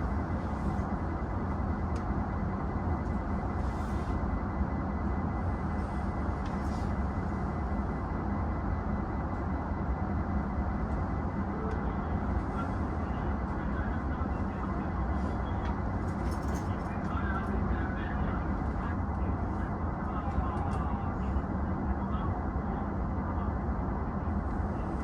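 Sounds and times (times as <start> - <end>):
train car hum and rumble: 0.0 - 25.0.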